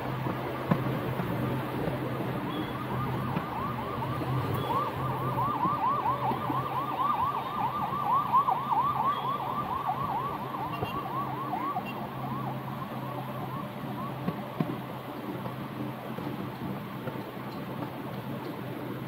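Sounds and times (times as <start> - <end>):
emergency vehicle yelp siren: 0.0 - 19.0.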